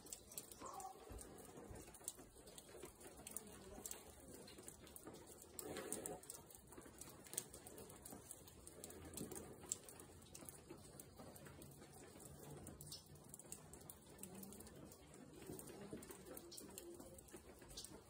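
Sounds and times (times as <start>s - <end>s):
soft ticks and rustles: 0.0s - 18.0s.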